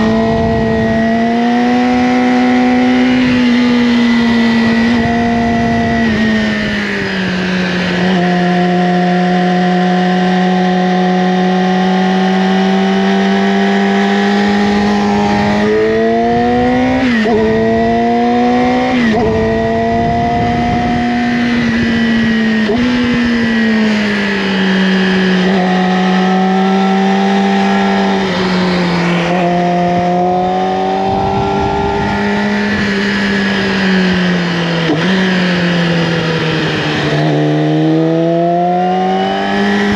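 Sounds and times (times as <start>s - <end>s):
gear shifting: 0.0s - 39.9s
motorcycle engine revving: 0.0s - 39.9s.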